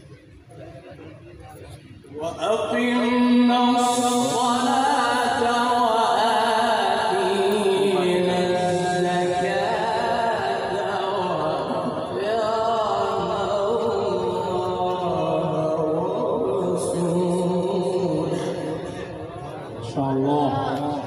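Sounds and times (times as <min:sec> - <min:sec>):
man chanting through microphone: 0:01.6 - 0:21.0.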